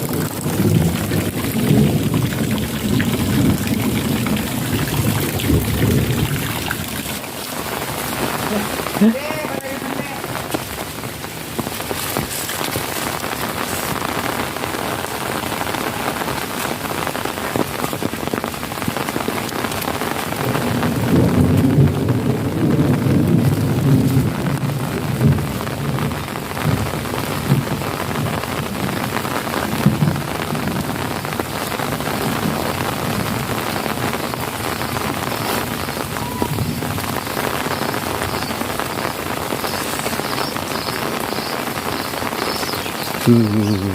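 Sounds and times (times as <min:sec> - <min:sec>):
close raindrop hits ticking: 0:00.0 - 0:43.9
steady rain: 0:00.0 - 0:43.9.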